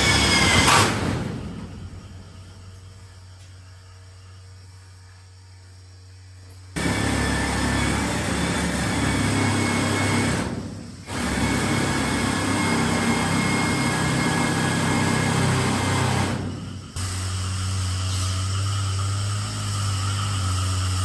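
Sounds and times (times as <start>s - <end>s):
small motor running: 2.2s - 21.0s.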